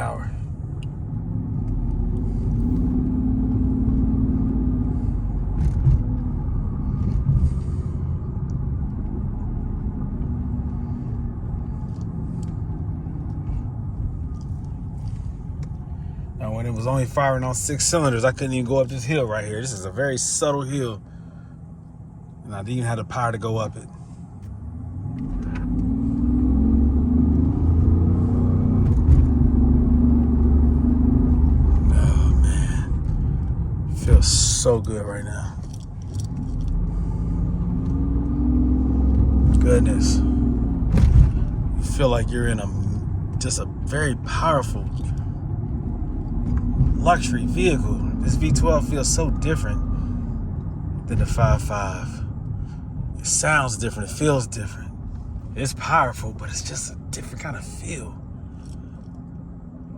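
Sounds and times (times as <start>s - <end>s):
engine rumble inside car: 0.0s - 59.9s.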